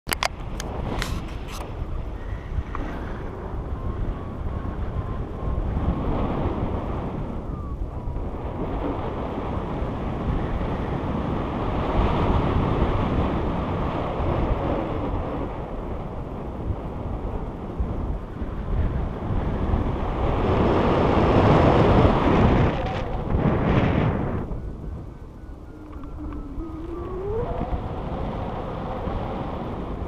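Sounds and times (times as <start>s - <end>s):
wind buffeting microphone: 0.1s - 30.0s.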